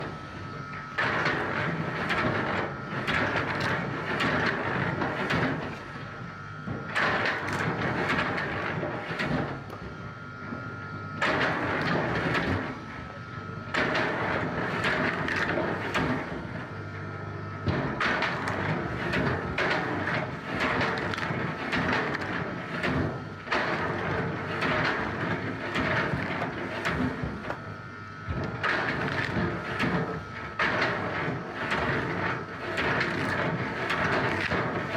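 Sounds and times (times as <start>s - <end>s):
wood-processing machinery running: 0.0s - 34.9s.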